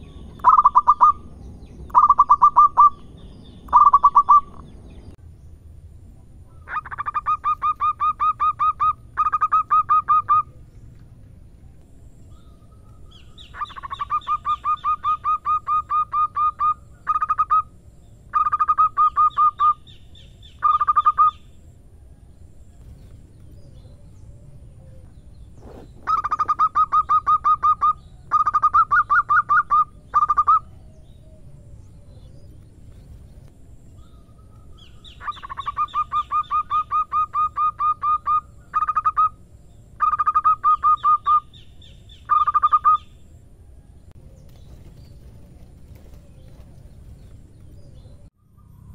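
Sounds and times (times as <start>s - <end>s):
dove cooing song: 0.0s - 4.8s, 6.5s - 11.0s, 11.7s - 48.7s.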